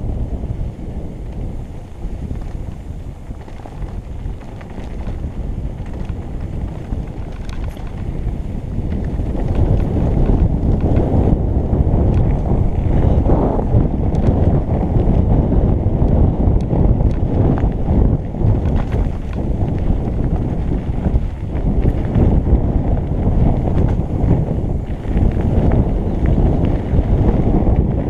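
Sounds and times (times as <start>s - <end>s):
stones and bike rattling: 0.0s - 28.0s
wind rushing over microphone: 0.0s - 28.0s
tyre rumble on gravel: 2.0s - 14.6s, 17.0s - 28.0s.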